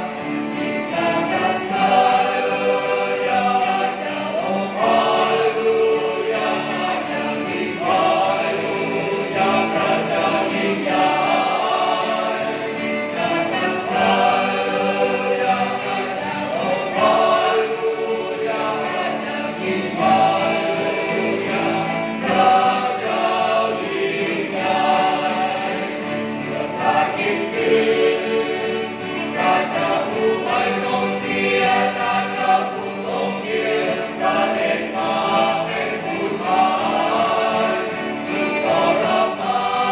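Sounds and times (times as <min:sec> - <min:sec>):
group singing a hymn: 0:00.0 - 0:39.9
strummed acoustic guitar: 0:00.0 - 0:39.9.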